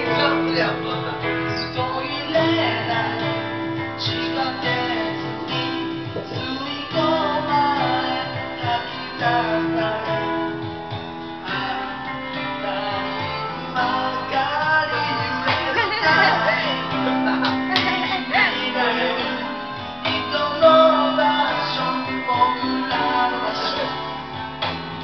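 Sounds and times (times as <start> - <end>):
person singing: 0.0 - 10.7, 11.4 - 24.6
karaoke backing track: 0.0 - 25.0.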